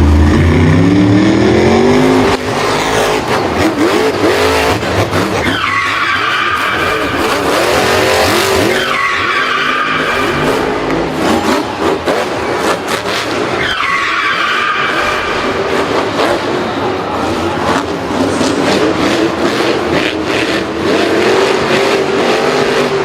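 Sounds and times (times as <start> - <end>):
car engine revving: 0.0 - 23.0
tyres squealing and skidding: 1.7 - 23.0.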